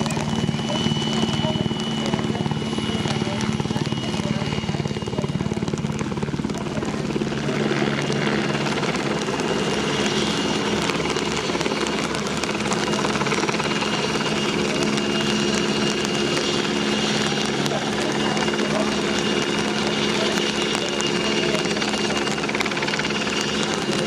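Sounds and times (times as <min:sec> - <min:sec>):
helicopter rotor blades beating: 0:00.0 - 0:24.0
high turbine whine: 0:00.0 - 0:24.0.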